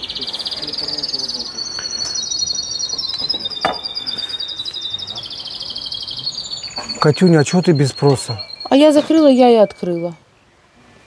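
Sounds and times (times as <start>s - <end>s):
wildlife chirping trills: 0.0s - 10.7s.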